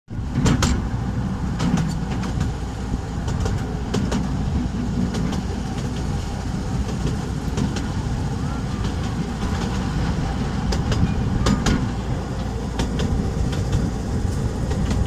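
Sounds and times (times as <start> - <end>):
train rumbling on track: 0.1 - 15.0
train wheels clicking and clacking: 0.2 - 15.0.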